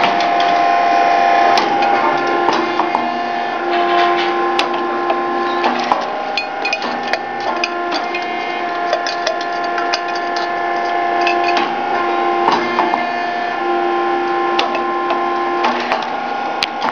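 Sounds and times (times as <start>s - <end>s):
rice cake machine humming: 0.0s - 16.9s.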